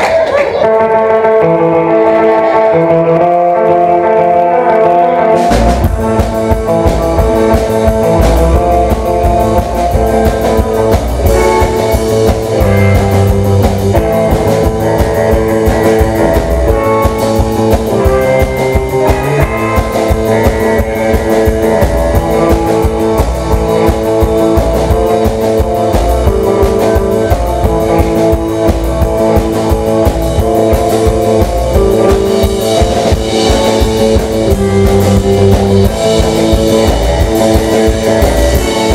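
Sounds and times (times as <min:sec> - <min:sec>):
drum kit beat: 0:00.0 - 0:38.9
electric guitars: 0:00.0 - 0:38.9.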